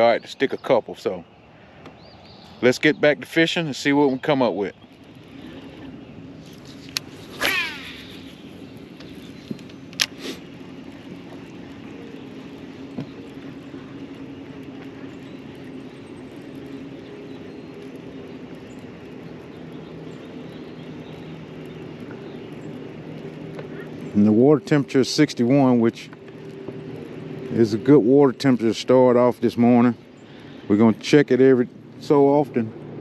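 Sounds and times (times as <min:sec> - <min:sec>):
electric trolling motor humming: 0:01.3 - 0:33.0.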